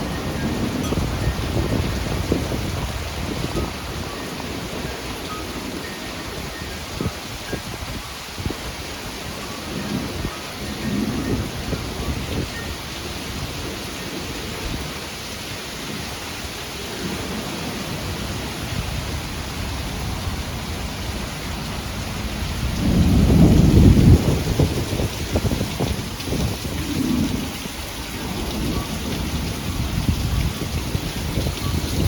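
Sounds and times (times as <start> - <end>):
low rolling thunder: 0.0 - 7.2, 7.8 - 16.2, 16.8 - 32.0
steady rain: 0.0 - 32.0.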